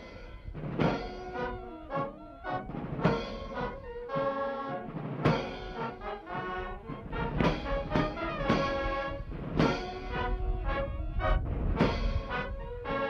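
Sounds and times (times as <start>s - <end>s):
cymbal and drum strikes: 0.0s - 6.6s, 7.2s - 10.4s, 11.8s - 12.4s
brass band playing: 0.0s - 13.0s.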